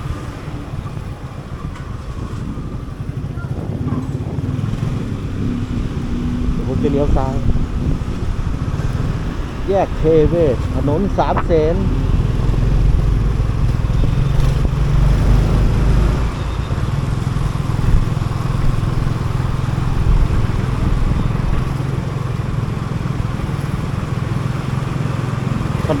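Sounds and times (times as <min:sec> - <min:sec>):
motorcycle engine running: 0:00.0 - 0:26.0
road noise: 0:00.0 - 0:26.0.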